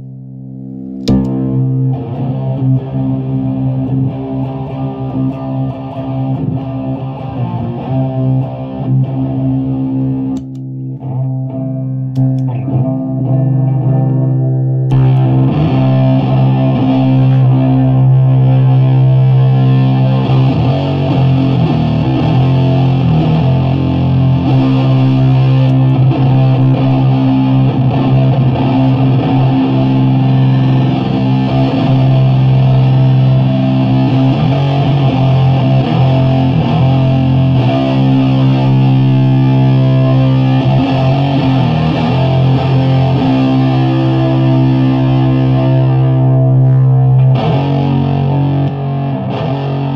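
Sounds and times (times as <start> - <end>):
fuzz-distorted electric guitar: 0.0 - 49.9.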